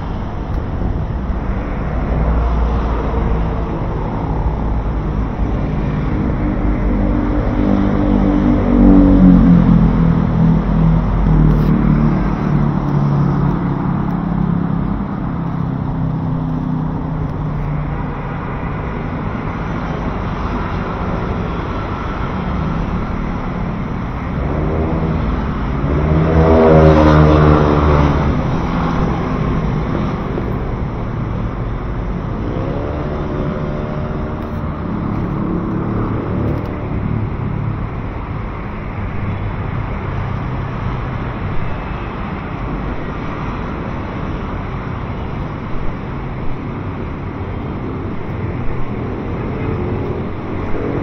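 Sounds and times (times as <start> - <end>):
vehicles passing: 0.0 - 51.0.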